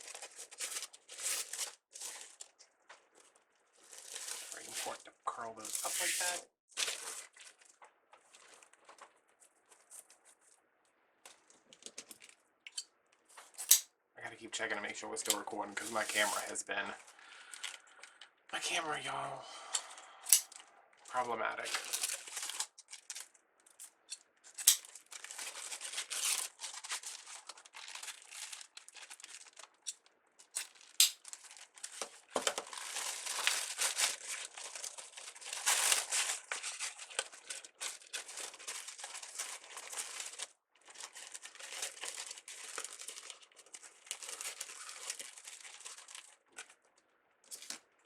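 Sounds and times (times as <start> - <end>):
mesh and ribbon crinkling: 0.0 - 12.4, 15.2 - 18.2, 19.9 - 48.0.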